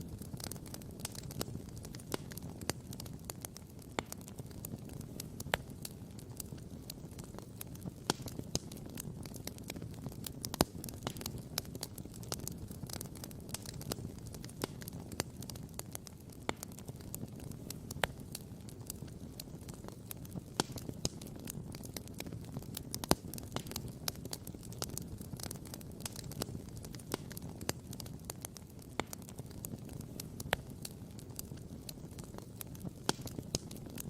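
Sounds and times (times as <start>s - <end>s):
campfire crackling and popping: 0.0s - 34.0s
low fire rumble: 0.0s - 34.0s.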